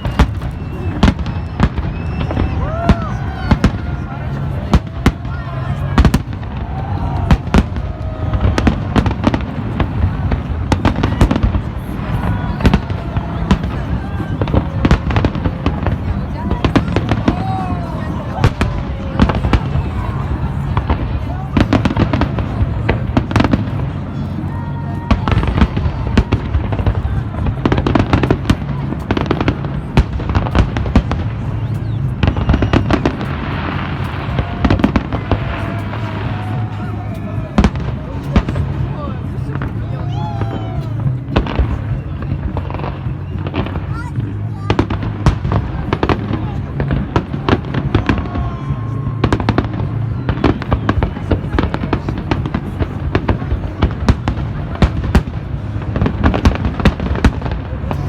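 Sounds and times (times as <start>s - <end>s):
fireworks bangs: 0.0s - 58.0s
fireworks crackle: 0.0s - 58.0s.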